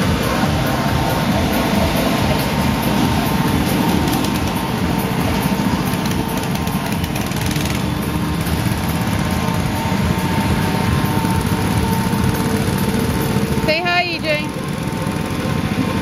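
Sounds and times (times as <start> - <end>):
go-kart engines running: 0.0 - 16.0.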